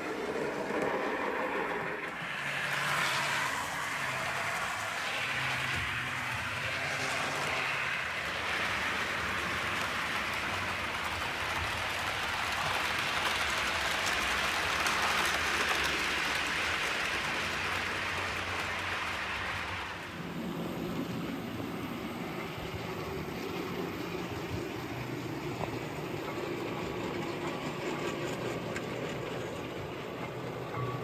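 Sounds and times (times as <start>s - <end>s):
model train running on track: 0.0s - 31.0s.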